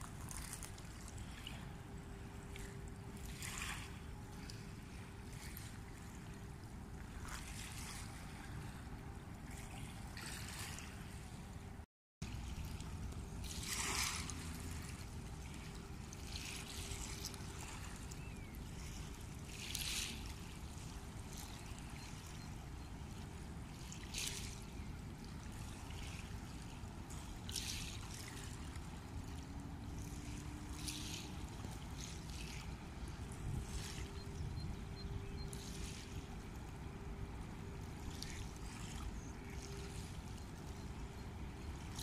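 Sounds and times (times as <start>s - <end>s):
small waves lapping against bank: 0.0s - 42.0s
wind rumble on microphone: 0.0s - 42.0s.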